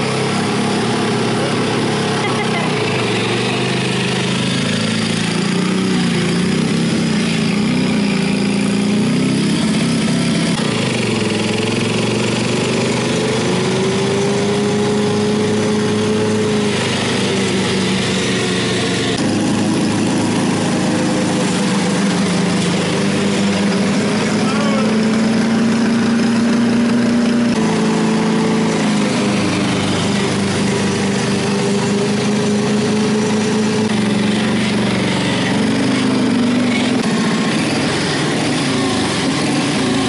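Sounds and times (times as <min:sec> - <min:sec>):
riding mower engine running: 0:00.0 - 0:40.0
thin whine: 0:00.0 - 0:40.0.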